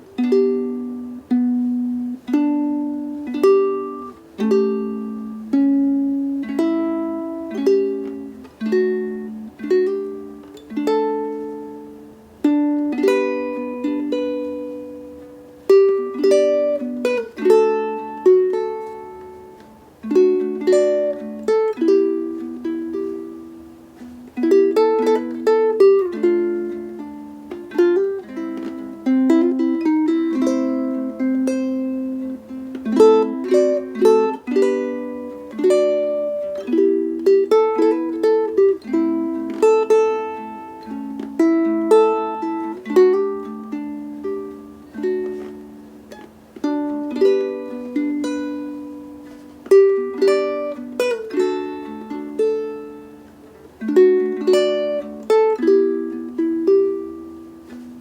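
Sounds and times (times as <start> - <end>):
fingerstyle ukulele: 0.0 - 58.0.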